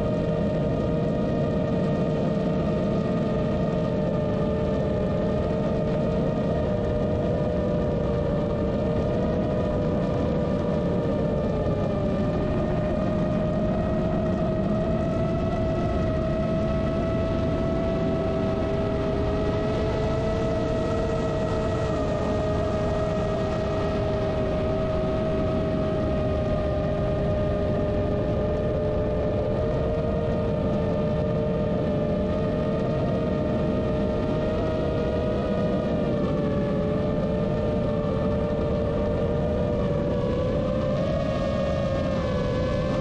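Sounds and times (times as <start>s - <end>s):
wind and prop wash: 0.0s - 43.0s.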